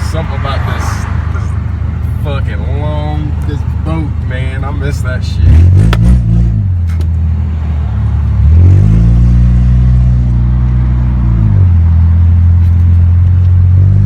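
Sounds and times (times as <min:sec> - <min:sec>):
car engine and exhaust: 0:00.0 - 0:14.0.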